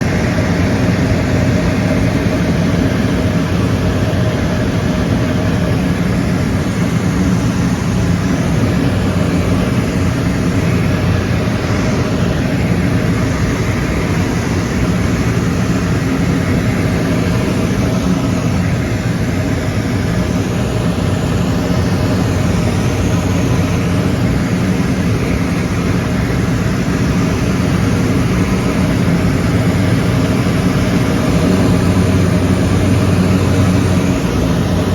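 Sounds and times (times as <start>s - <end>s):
airplane cabin engine drone: 0.0s - 34.9s.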